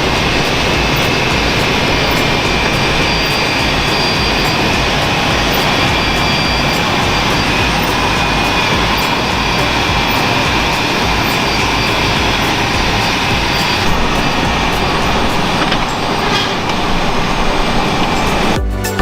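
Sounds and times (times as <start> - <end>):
tractor engine running: 0.0 - 18.6
music: 0.0 - 19.0.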